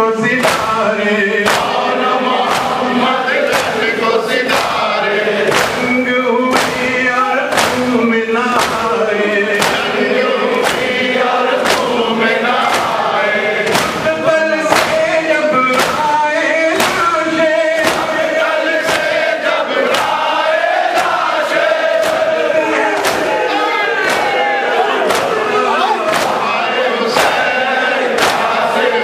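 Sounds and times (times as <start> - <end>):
crowd of men chanting: 0.0 - 29.0
man singing through microphone: 0.0 - 29.0
chest-beating in unison: 0.1 - 29.0.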